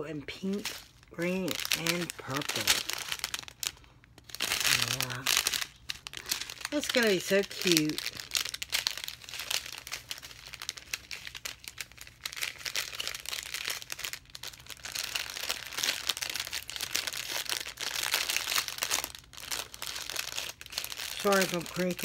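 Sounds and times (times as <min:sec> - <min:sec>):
crinkling of thin plastic packets: 0:00.1 - 0:22.0.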